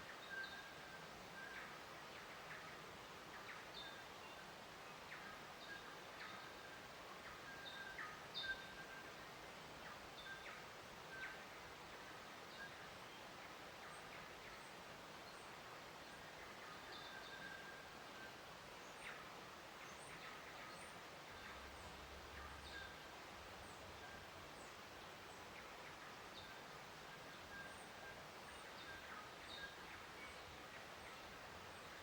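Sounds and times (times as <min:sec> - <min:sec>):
soft outdoor hiss: 0:00.0 - 0:32.0.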